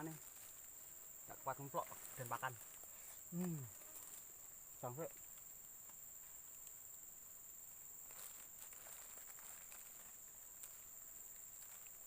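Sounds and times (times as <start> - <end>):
soft rustling: 0.0 - 6.8, 7.9 - 12.0
insects droning: 0.0 - 12.0.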